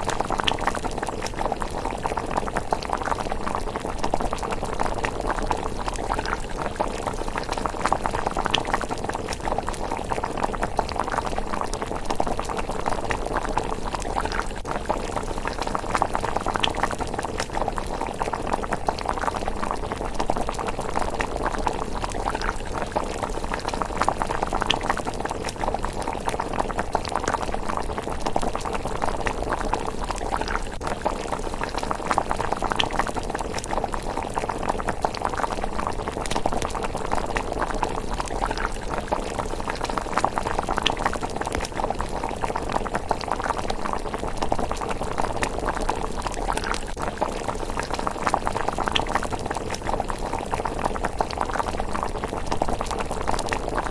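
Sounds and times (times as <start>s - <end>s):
porridge bubbling in a pot: 0.0s - 53.9s.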